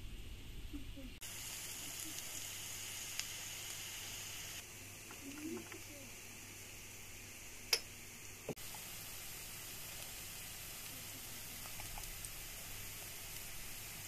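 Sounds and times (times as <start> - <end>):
onion sizzling in hot oil: 1.2 - 14.0.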